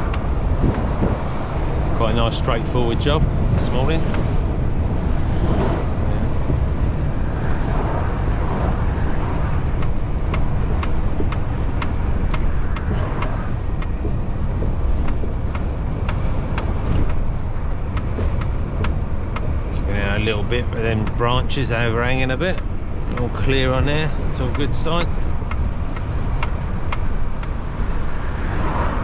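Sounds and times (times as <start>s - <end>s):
truck engine and road rumble: 0.0s - 29.0s.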